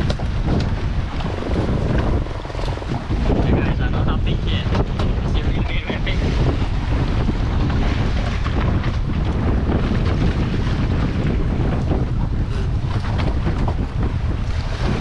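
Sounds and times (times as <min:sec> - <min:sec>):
choppy sea washing against boat: 0:00.0 - 0:15.0
wind buffeting microphone: 0:00.0 - 0:15.0.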